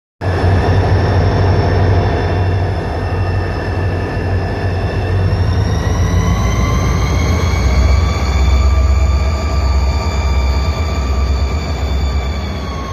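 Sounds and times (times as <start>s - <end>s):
deep diesel engine rumble: 0.2s - 12.9s
turbocharger whine: 0.2s - 12.9s.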